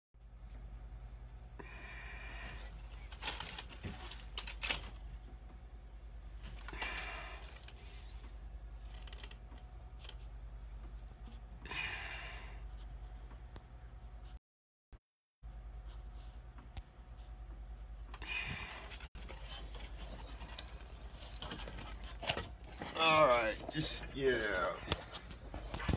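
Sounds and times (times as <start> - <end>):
steady low hum: 0.2 - 14.4, 15.5 - 25.9.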